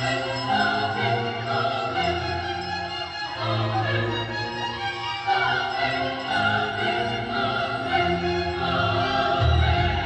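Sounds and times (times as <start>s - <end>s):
operatic choir singing: 0.0s - 10.0s
orchestral strings and bass: 0.0s - 10.0s.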